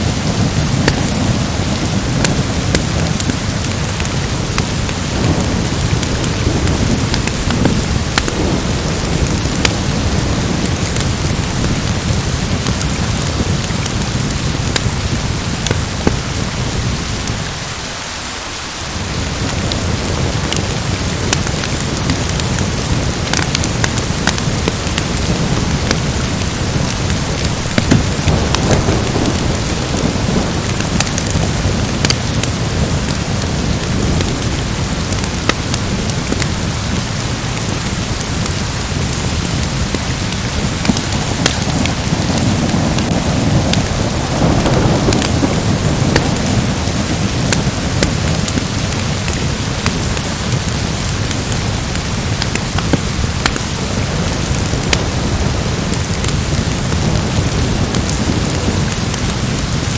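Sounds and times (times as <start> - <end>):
rolling thunder rumbles: 0.0 - 17.3, 19.1 - 59.9
wood fire crackling: 0.0 - 18.2, 18.8 - 59.9
heavy rain: 0.0 - 59.9.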